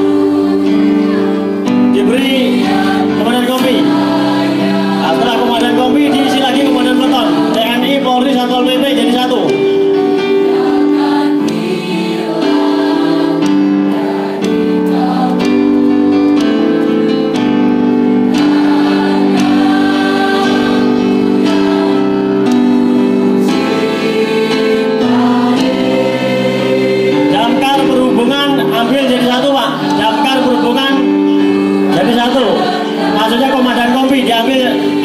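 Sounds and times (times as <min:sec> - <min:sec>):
mixed choir singing in harmony: 0:00.0 - 0:35.0.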